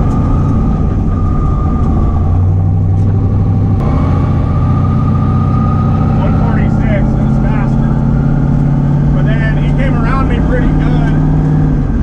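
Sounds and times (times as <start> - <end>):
car engine idling rumble: 0.0 - 12.0.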